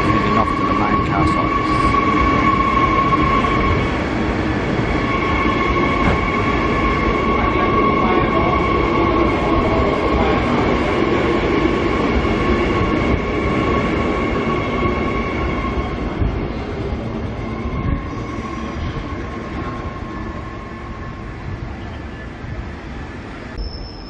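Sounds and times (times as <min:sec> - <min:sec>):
train wheels running: 0:00.0 - 0:21.6
electric train whine: 0:00.0 - 0:24.0.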